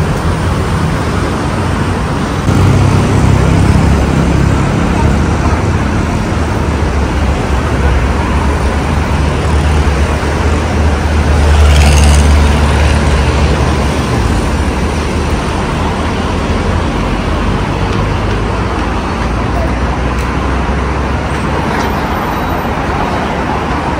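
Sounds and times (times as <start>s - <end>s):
heavy vehicle rumble: 0.0s - 23.9s
road traffic: 0.0s - 23.9s.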